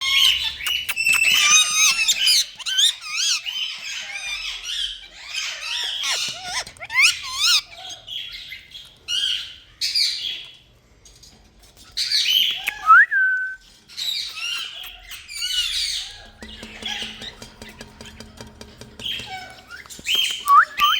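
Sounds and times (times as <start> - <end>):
parrot squawks and chirps: 0.0 - 10.5, 13.9 - 20.9.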